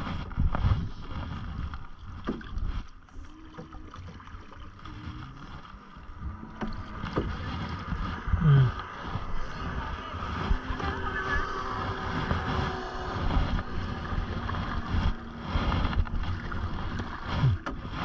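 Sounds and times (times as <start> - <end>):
wind buffeting microphone: 0.0 - 3.0, 3.6 - 18.0
canoe paddle strokes in water: 0.0 - 18.0
low water gurgle: 0.0 - 18.0.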